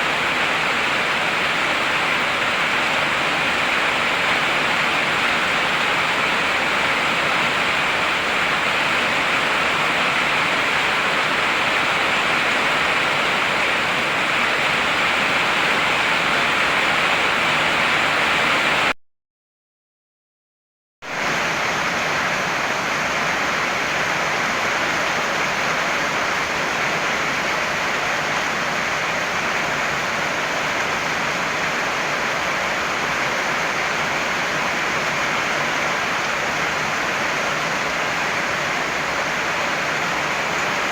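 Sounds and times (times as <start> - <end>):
heavy rain pouring: 0.0 - 18.9, 21.0 - 40.9.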